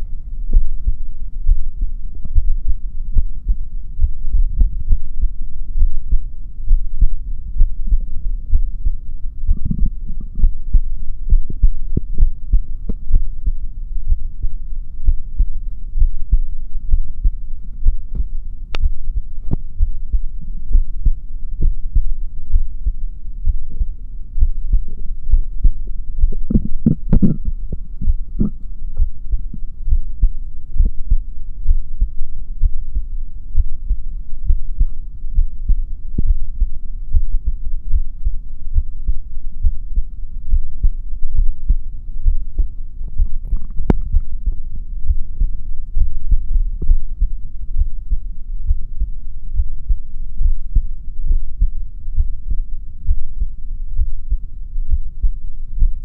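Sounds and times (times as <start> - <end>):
low rumble: 0.0 - 56.0
steady low hum: 0.0 - 56.0
heartbeat thuds: 0.5 - 23.8, 24.4 - 38.2, 39.6 - 56.0.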